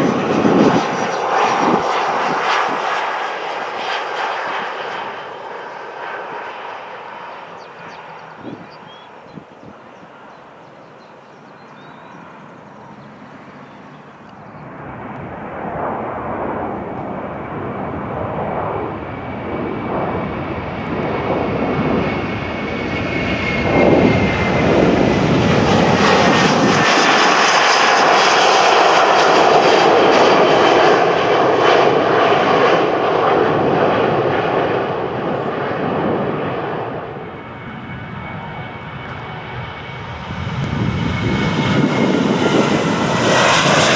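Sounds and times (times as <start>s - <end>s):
airliner engines passing by: 0.0s - 43.9s.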